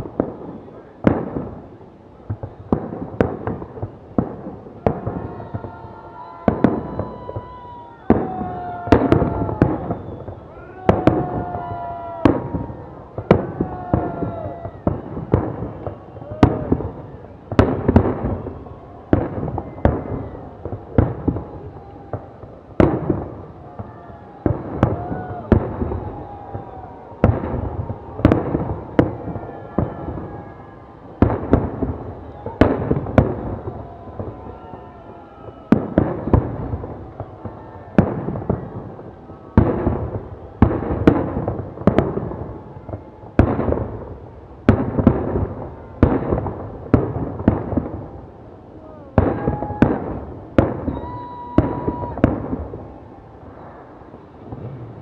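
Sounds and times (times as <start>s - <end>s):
fireworks bursting with echoes: 0.0s - 55.0s.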